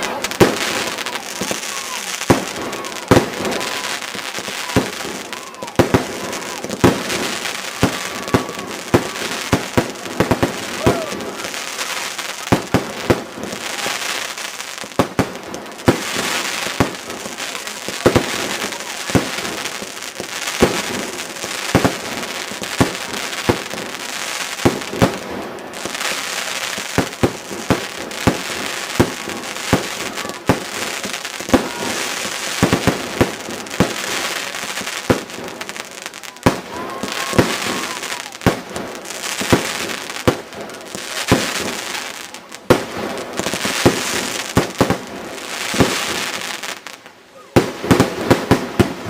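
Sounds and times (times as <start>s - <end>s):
fireworks bangs: 0.0s - 49.0s.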